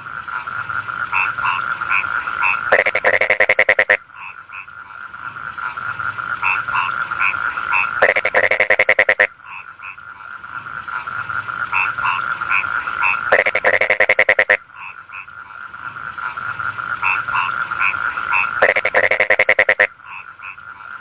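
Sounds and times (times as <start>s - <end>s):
frogs croaking in chorus: 0.0s - 21.0s
frog rapid rattling call: 0.2s - 21.0s
steady frog trill: 0.7s - 4.8s, 6.0s - 10.0s, 11.3s - 15.4s, 16.2s - 21.0s.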